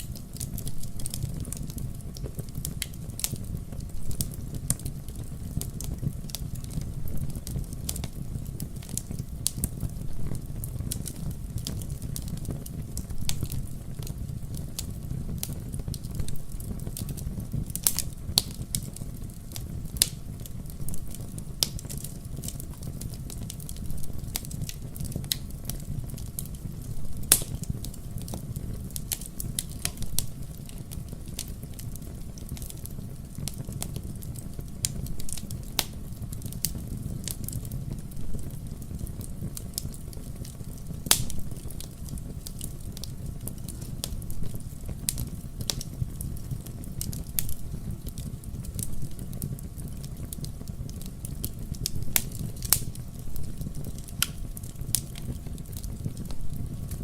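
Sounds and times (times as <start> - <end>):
fire rumbling: 0.0 - 57.0
logs crackling and popping: 0.0 - 57.0.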